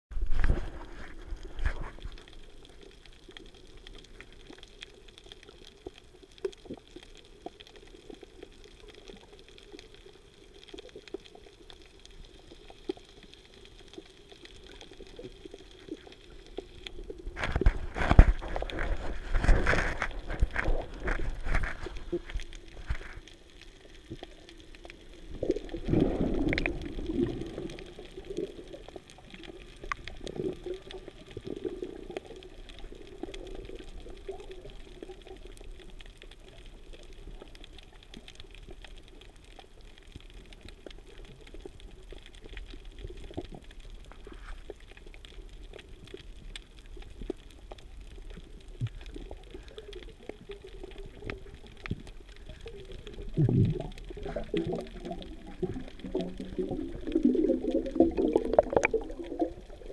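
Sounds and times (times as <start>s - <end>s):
underwater rushing and gurgling: 0.1s - 59.9s.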